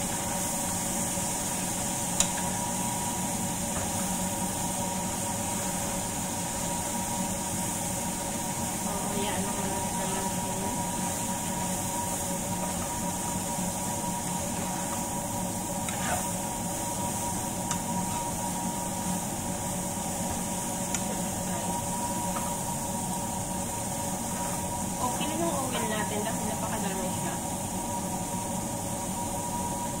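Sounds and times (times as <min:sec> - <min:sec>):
fish sizzling in oil: 0:00.0 - 0:30.0
steady hum: 0:00.0 - 0:30.0.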